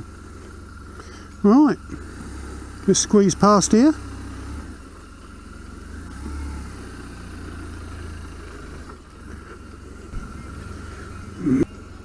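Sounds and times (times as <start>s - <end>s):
motorcycle engine low rumble: 0.0s - 12.0s.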